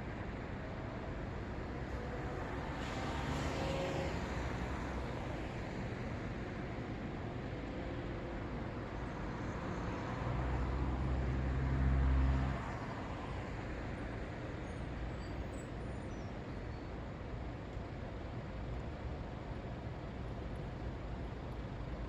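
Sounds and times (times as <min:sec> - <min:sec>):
city road traffic: 0:00.0 - 0:22.0.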